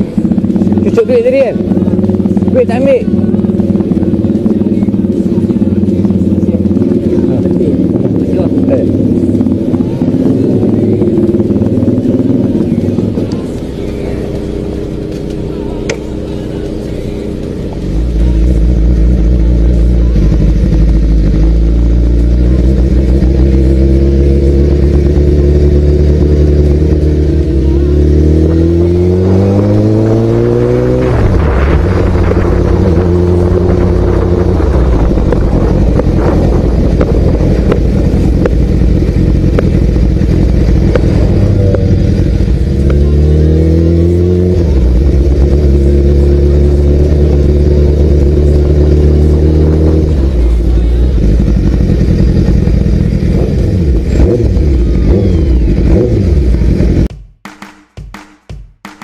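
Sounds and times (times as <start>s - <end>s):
vehicle engine revving: 0.0s - 57.1s.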